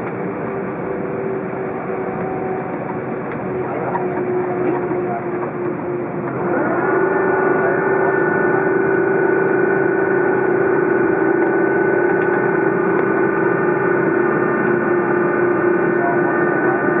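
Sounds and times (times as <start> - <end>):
jet engines humming and whining: 0.0 - 17.0.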